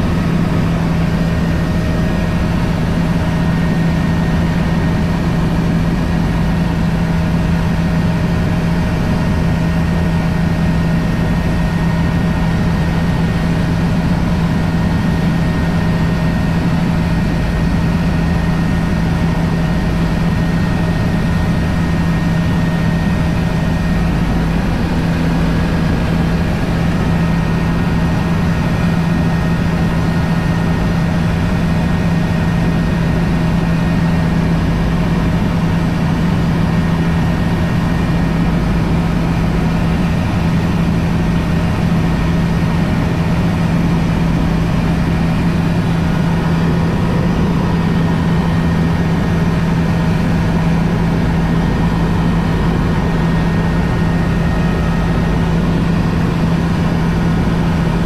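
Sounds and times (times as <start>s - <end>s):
faint steady whines: 0.0s - 58.0s
helicopter rotor and engine hum: 0.0s - 58.0s.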